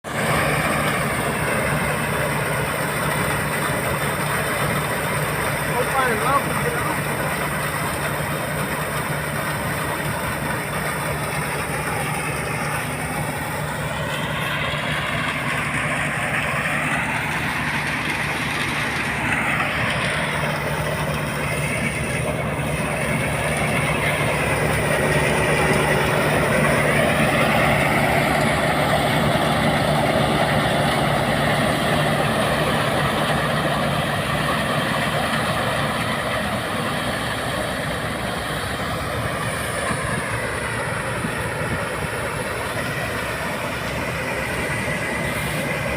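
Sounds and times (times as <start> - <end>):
combine harvester running: 0.0 - 45.9.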